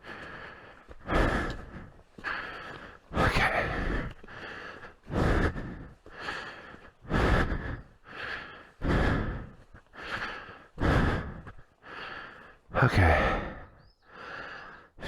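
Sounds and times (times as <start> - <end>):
man breathing heavily: 0.0 - 15.0.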